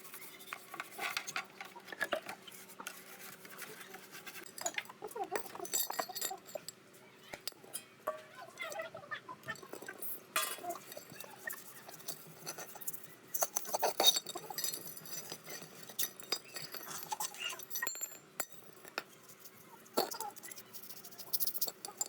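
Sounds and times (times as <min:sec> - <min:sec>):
metal parts and tools clinking: 0:00.1 - 0:08.8, 0:09.5 - 0:22.0.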